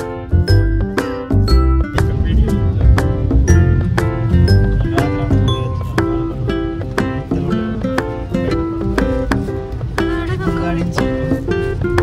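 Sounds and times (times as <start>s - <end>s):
plucked acoustic string melody: 0.0s - 12.0s
steady beat: 0.4s - 12.0s.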